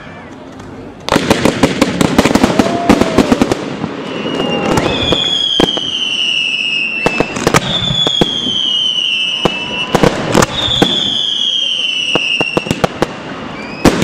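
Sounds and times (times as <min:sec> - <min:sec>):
firework bangs and crackle: 0:00.3 - 0:14.0
whistling firework shells: 0:02.3 - 0:14.0.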